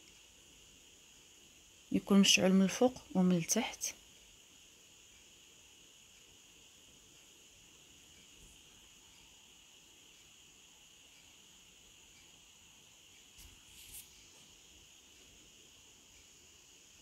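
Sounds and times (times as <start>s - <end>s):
faint high-pitched hiss: 0.0s - 17.0s.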